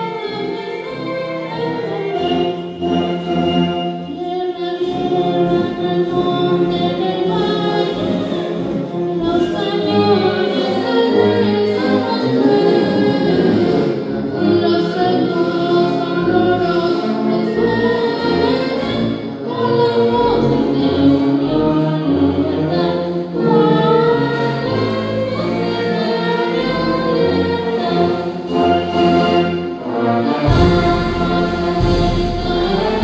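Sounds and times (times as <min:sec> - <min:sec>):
choir singing with orchestra: 0:00.0 - 0:33.0.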